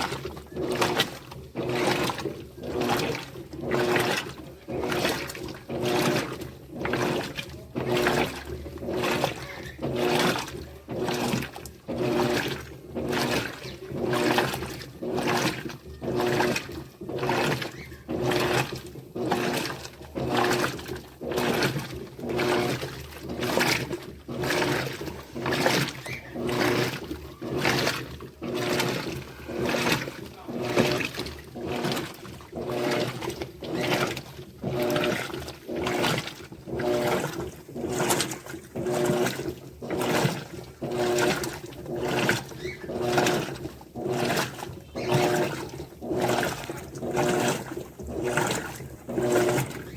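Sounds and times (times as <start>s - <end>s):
washing machine motor hum: 0.0s - 49.9s
water sloshing in washing machine: 0.0s - 49.9s.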